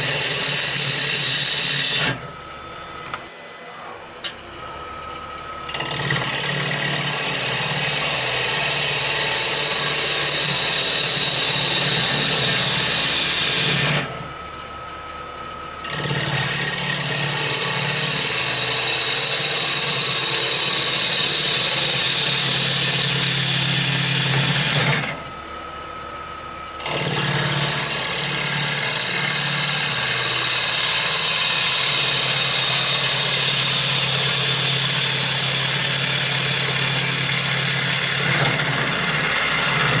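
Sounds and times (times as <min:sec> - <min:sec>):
gouge cutting wood on lathe: 0:00.0 - 0:02.4, 0:05.7 - 0:14.2, 0:15.8 - 0:25.2, 0:26.8 - 0:40.0.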